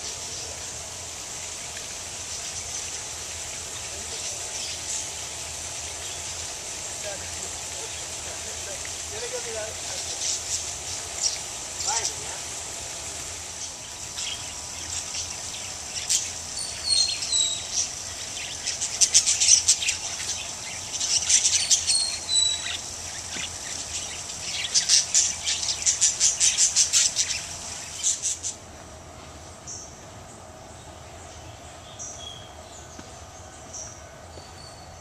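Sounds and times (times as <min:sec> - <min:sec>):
parrots chirping and chattering: 0:00.0 - 0:34.6.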